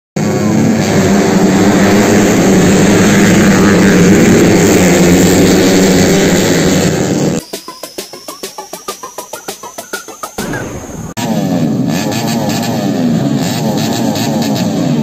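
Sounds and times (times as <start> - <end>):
motocross bikes racing: 0.2 - 15.0.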